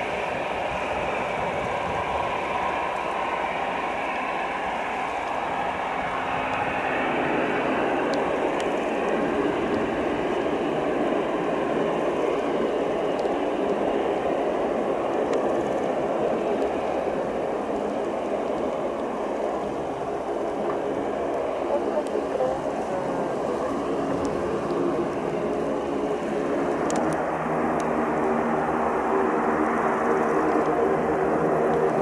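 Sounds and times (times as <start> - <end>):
turboprop engines droning: 0.0 - 32.0.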